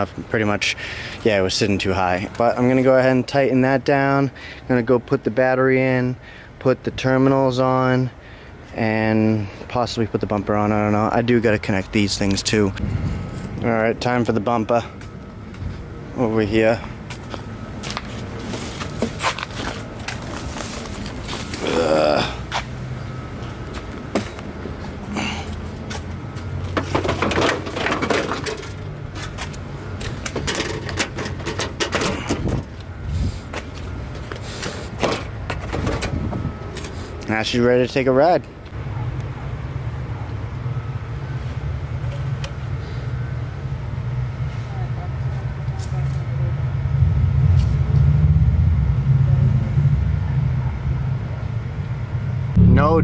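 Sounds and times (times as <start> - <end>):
steady low hum: 0.0 - 53.0
car engine low rumble: 9.3 - 37.2, 38.4 - 53.0.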